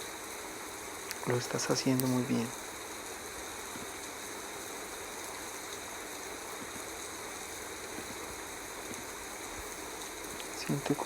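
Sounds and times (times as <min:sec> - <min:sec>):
running water rushing: 0:01.0 - 0:11.0.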